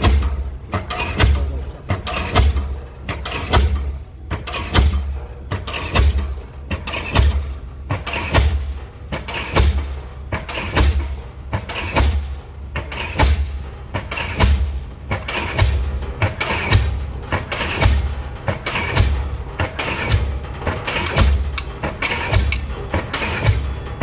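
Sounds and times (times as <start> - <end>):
pile hammer striking: 0.0 - 23.8.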